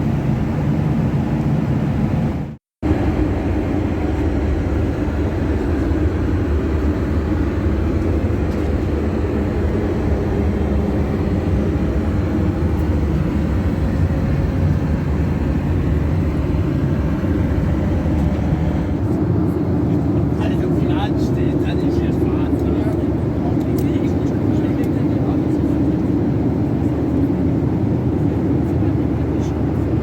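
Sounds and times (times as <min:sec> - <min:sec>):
airplane cabin engine noise: 0:00.0 - 0:30.0.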